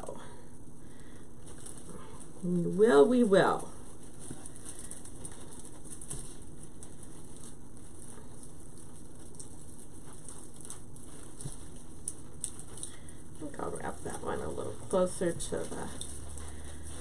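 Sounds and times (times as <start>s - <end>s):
artificial branches rustling: 0.0s - 17.0s.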